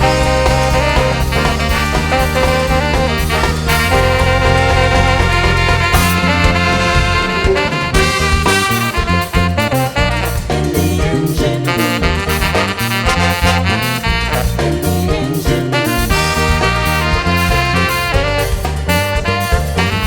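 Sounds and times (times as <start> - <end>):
brass and saxophone lines: 0.0 - 20.0
steady drum beat: 0.0 - 20.0.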